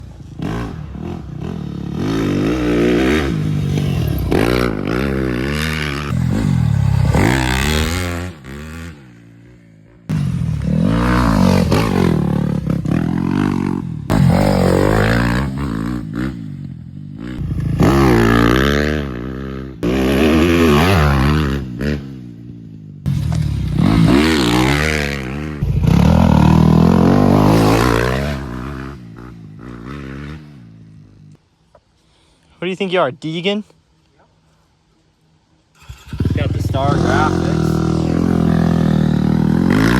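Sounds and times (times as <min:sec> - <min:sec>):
motorcycle engine revving: 0:00.0 - 0:31.4, 0:35.8 - 0:39.9.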